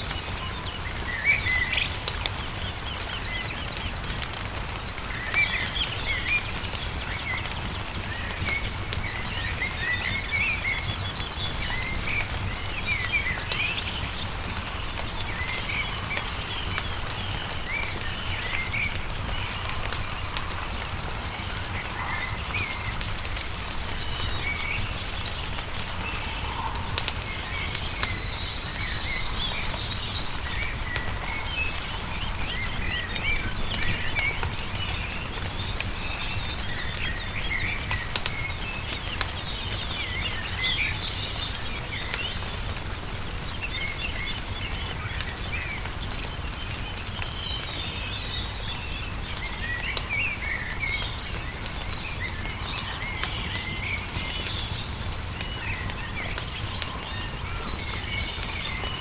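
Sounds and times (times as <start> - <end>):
songbirds chirping and singing: 0.0 - 59.0
wood fire crackling: 0.0 - 59.0.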